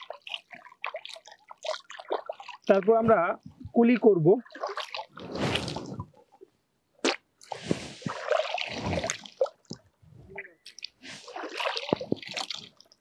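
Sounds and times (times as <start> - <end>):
water splashing and dripping: 0.0 - 6.1, 7.4 - 9.9, 10.6 - 13.0.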